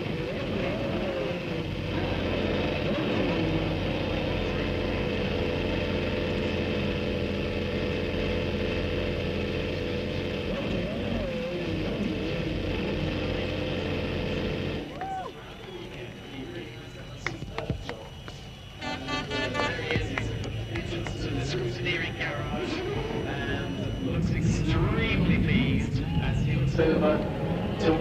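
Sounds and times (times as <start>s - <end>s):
low hum: 0.0s - 28.0s
racing car engine running: 0.0s - 28.0s.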